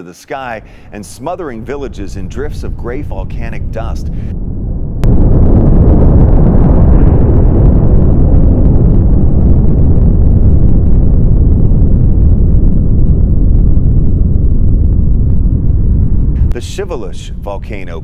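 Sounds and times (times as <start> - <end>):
volcanic eruption deep rumble: 0.4 - 18.0.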